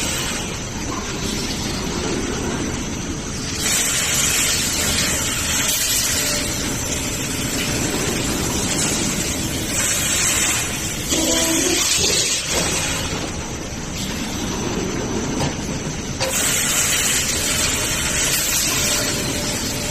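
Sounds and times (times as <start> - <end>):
industrial machinery running: 0.0 - 19.9.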